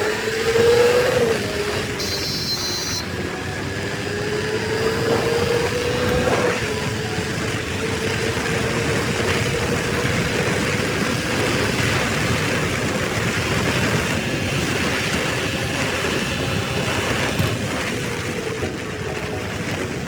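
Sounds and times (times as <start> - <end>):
vehicle road noise: 0.0 - 20.0.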